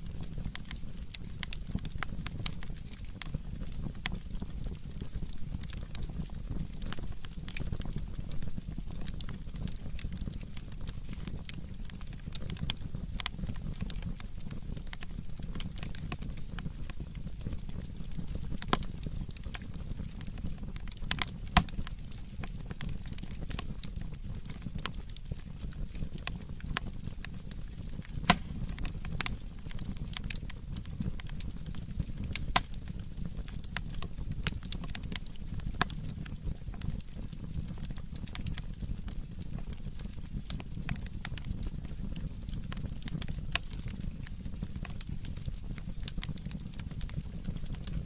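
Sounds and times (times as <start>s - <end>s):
firewood crackling and popping: 0.0s - 48.0s
low rumble of fire: 0.0s - 48.0s.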